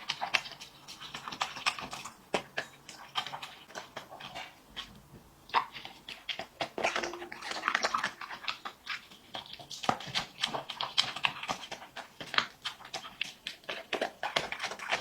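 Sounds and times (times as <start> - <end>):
dog chewing and lapping: 0.0 - 15.0.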